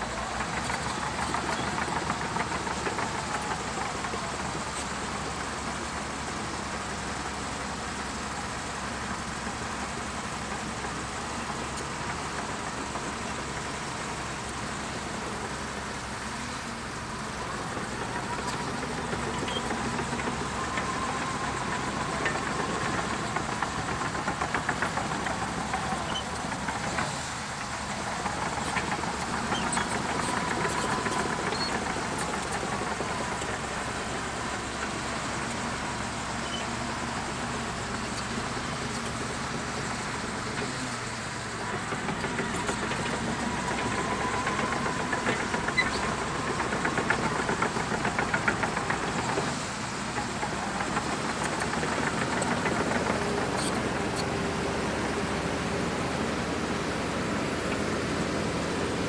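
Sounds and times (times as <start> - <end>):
rapid clatter: 0.0 - 6.4, 10.5 - 59.0
bulldozer diesel engine running: 0.0 - 59.0.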